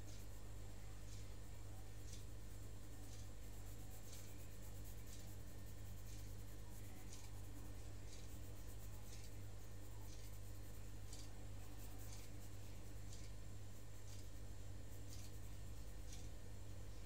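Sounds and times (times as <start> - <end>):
pencil scratching on paper: 0.0 - 16.4
steady low hum: 0.0 - 17.0.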